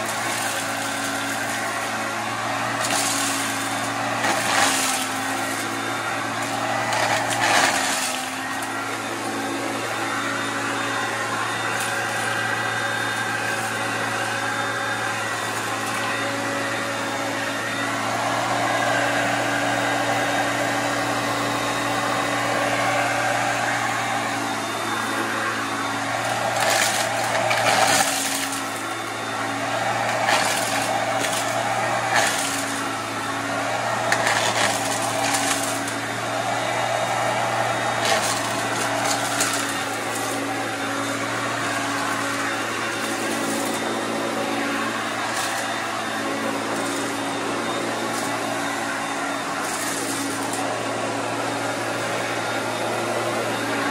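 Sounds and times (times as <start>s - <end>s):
vacuum cleaner motor hum: 0.0s - 53.9s.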